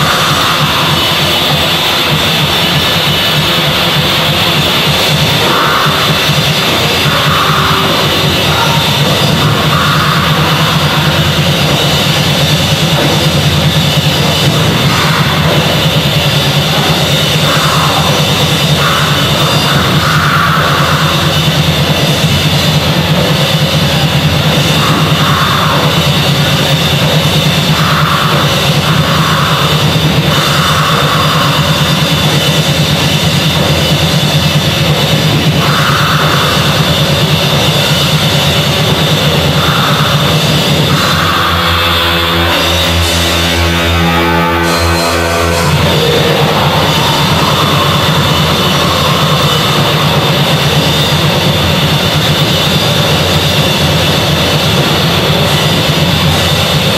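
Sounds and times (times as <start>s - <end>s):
distorted electric guitars: 0.0s - 56.9s
fast drum kit: 0.0s - 56.9s.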